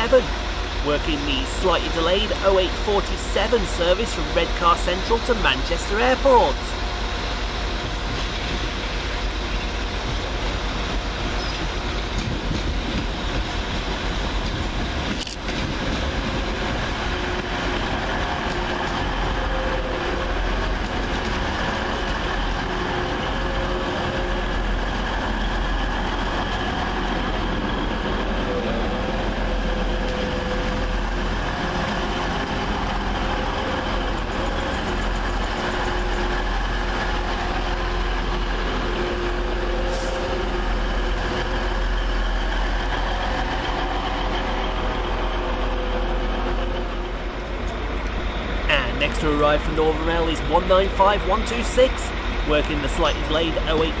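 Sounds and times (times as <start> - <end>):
diesel train engine and rail noise: 0.0 - 54.0.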